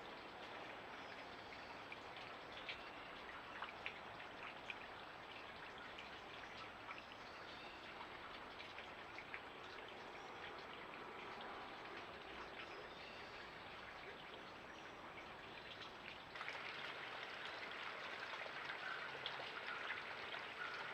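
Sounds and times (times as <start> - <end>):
creek babbling: 0.0 - 20.9
small splashes and drips: 0.0 - 20.9.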